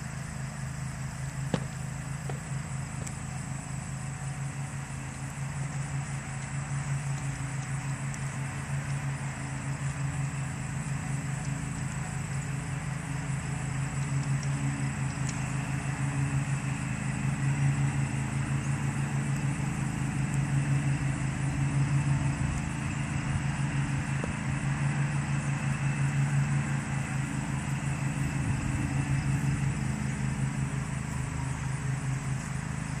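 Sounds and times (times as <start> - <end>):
motor idling: 0.0 - 33.0.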